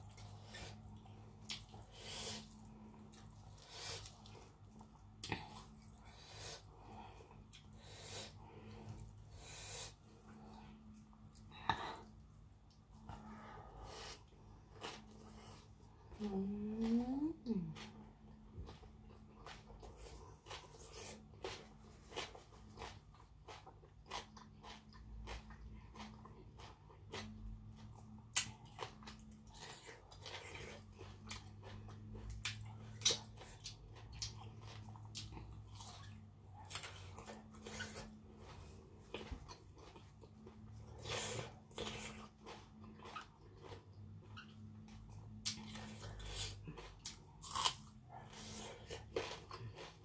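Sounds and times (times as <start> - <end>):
person chewing and crunching: 0.0 - 50.0.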